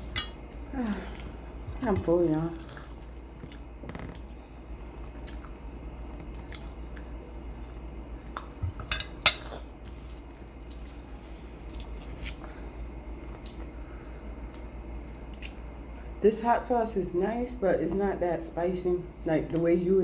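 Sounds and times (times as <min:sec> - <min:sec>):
soft chewing: 0:00.0 - 0:16.1
low steady hum: 0:00.0 - 0:20.0.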